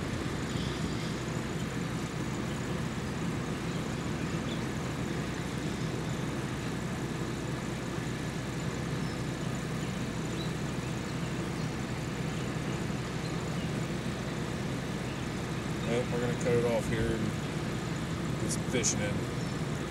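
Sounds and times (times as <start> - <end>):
engine idling rumble: 0.0 - 19.9.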